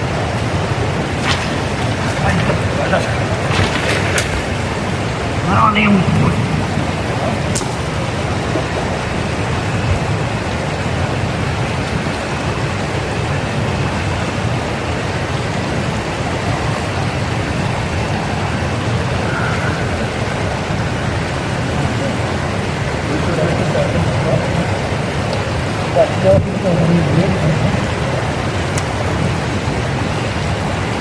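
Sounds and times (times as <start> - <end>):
river rapids rushing: 0.0 - 31.0.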